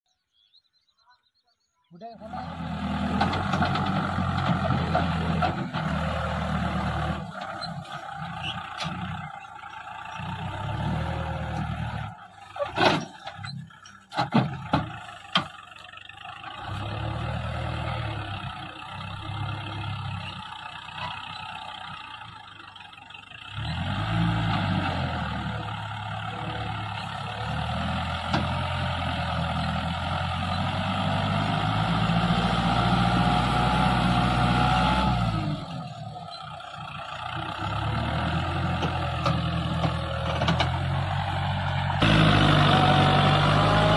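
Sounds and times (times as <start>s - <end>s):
tractor diesel engine labouring: 2.0s - 43.9s.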